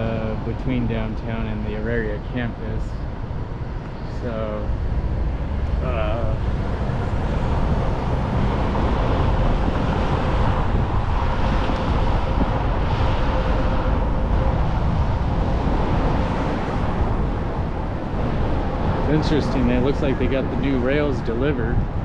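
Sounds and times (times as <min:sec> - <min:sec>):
light rail train rumbling: 0:00.0 - 0:22.0.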